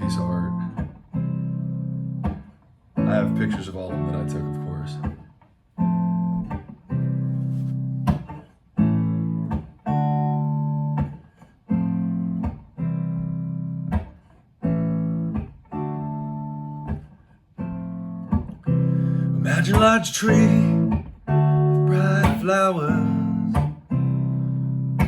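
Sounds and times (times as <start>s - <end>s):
guitar strumming chords: 0.0s - 25.0s.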